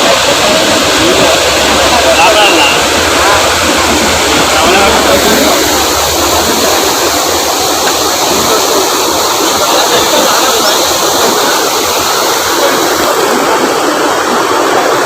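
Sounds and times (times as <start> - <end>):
water rushing over a dam: 0.0 - 15.0.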